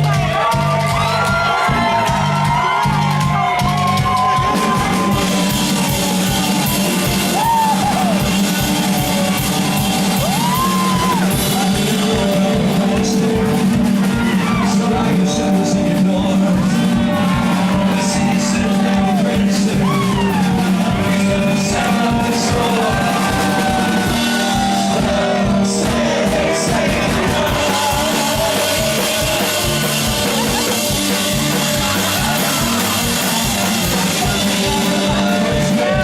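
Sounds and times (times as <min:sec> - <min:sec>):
live rock band playing: 0:00.0 - 0:36.0
steady drum beat: 0:00.0 - 0:36.0
person singing: 0:03.4 - 0:36.0.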